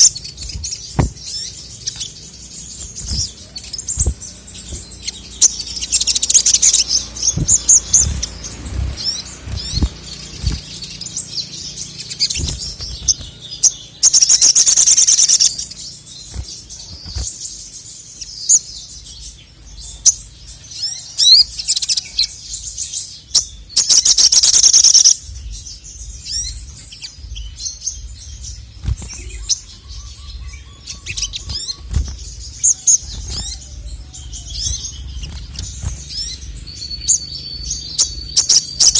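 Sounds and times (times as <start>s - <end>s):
bird fast trills: 0.0s - 18.7s, 23.2s - 25.4s, 26.2s - 38.9s
bird chirping and twittering: 0.0s - 38.9s.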